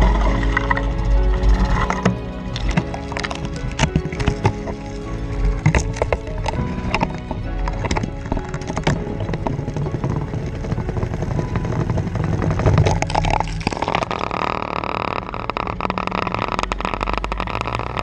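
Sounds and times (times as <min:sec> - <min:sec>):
atv engine running: 0:00.0 - 0:18.0
water splashing: 0:00.0 - 0:18.0.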